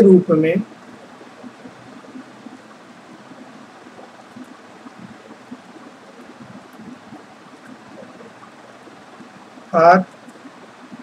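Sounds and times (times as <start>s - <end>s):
microphone hiss: 0.0s - 11.0s
soft ticks: 0.7s - 11.0s.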